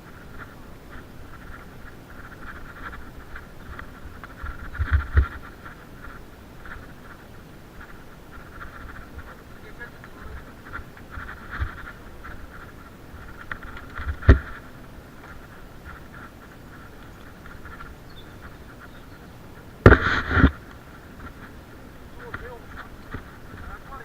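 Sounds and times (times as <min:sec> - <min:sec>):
bike jolt: 0:00.0 - 0:24.0
bike rattling on rough trail: 0:00.0 - 0:24.0.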